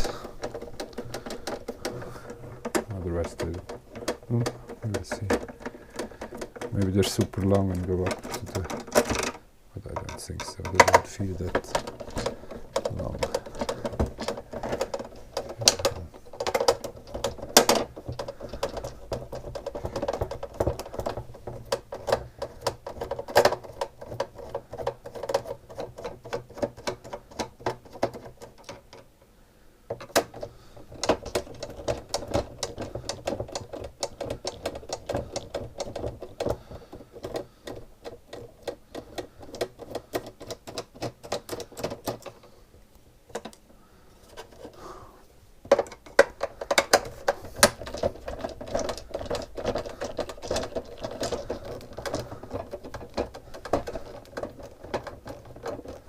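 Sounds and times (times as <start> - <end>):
screwdriver clicking and rattling: 0.0 - 29.1, 29.9 - 42.5, 45.7 - 56.0.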